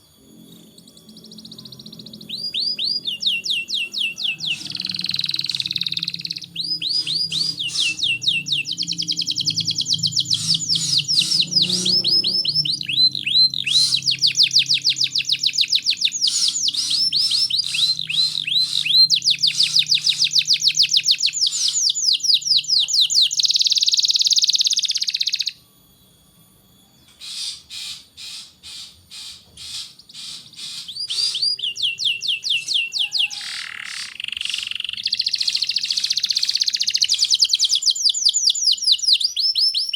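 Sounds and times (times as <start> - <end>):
canary singing trills: 0.0 - 26.1, 26.8 - 39.9.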